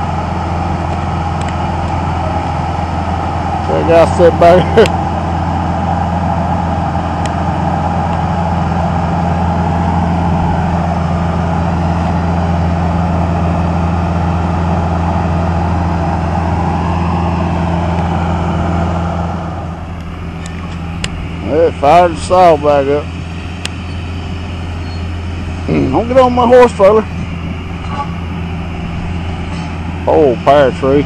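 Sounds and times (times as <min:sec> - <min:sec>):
machine engine droning: 0:00.0 - 0:31.0.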